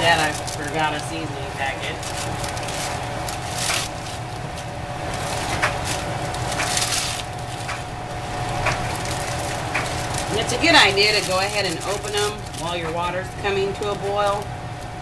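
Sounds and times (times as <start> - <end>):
plastic wrappers crinkling: 0.0 - 14.9
kitchen exhaust fan humming: 0.0 - 15.0.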